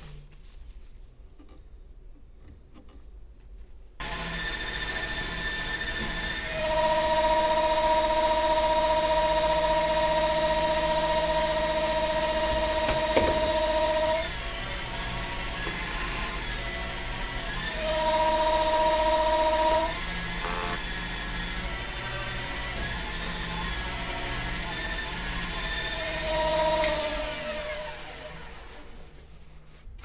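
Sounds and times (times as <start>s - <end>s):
power tool motor whine: 4.0s - 29.0s.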